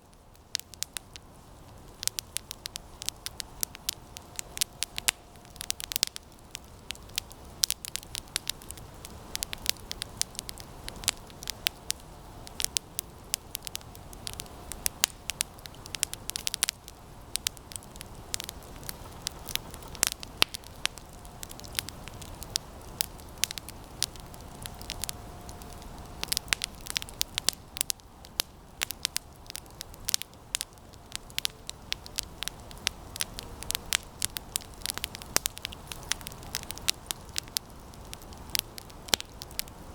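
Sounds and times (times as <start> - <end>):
campfire crackling and popping: 0.0 - 39.9
flame hissing: 0.3 - 39.9.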